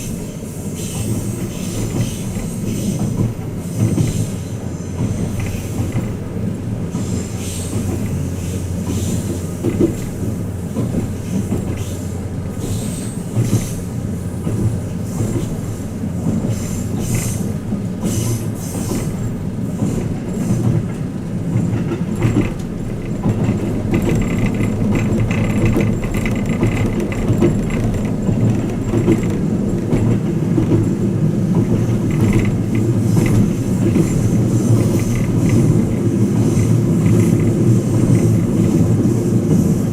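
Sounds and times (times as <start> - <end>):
rail clicks: 0.0 - 39.9
train wheels rumbling on rails: 0.0 - 39.9.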